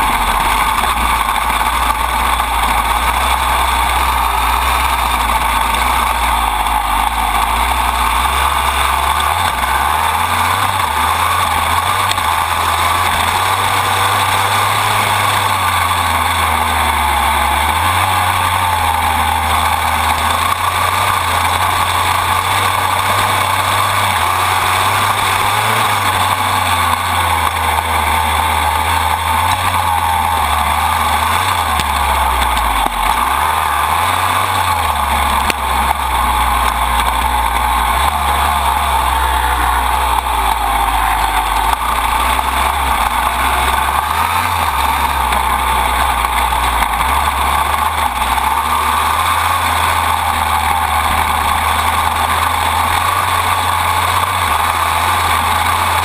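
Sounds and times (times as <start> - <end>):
dirt bike engine running hard: 0.0 - 56.0
steady rushing noise: 0.0 - 56.0.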